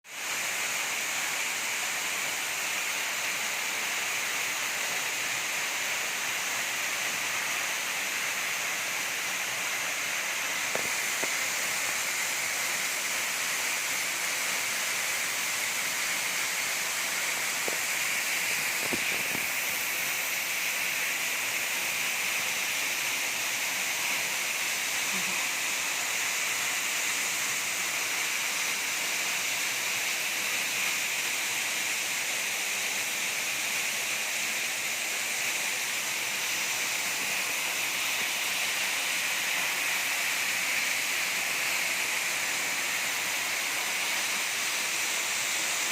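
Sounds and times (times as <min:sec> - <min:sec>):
waterfall roar: 0:00.2 - 0:45.9.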